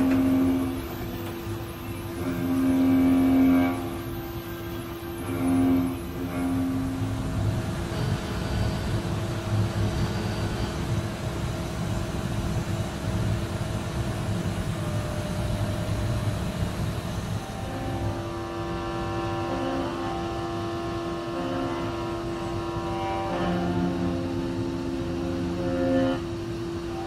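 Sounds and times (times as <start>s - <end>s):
milling machine cutting rumble: 0.0s - 27.0s
steady whining machine tones: 0.0s - 27.0s.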